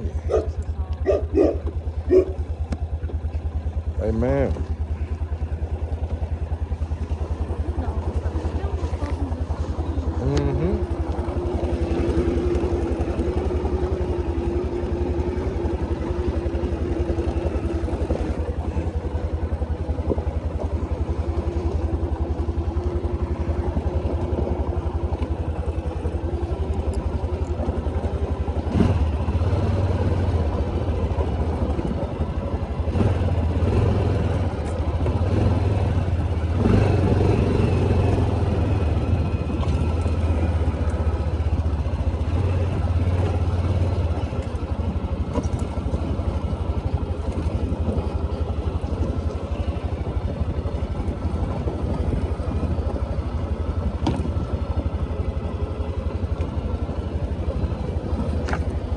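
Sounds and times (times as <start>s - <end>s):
quad bike engine rumbling: 0.0s - 58.9s.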